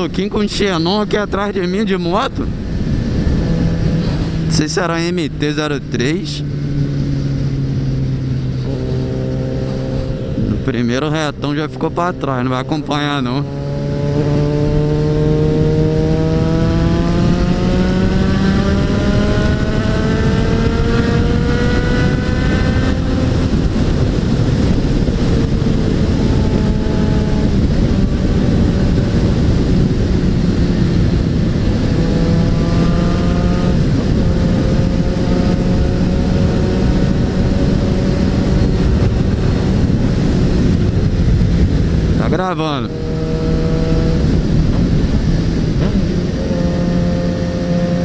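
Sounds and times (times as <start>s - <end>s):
wind noise on microphone: 0.0s - 48.0s
motorcycle engine accelerating: 2.4s - 48.0s.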